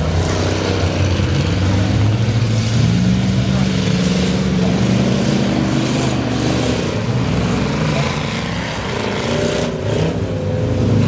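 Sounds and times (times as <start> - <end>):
racing truck engines: 0.0 - 11.0.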